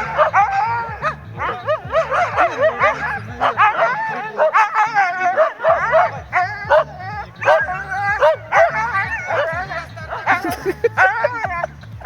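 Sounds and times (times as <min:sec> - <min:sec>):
sled dogs yipping and yelping: 0:00.0 - 0:12.0.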